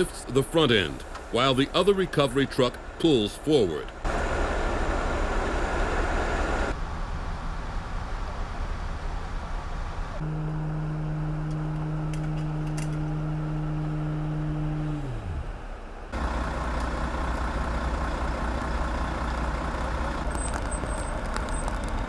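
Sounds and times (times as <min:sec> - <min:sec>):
diesel truck engines working: 0:00.0 - 0:22.0
low engine drone: 0:04.1 - 0:22.0.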